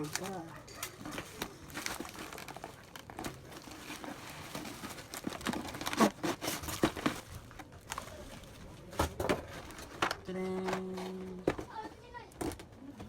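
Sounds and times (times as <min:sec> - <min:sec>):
plastic wrapping crinkling: 0:00.0 - 0:12.6.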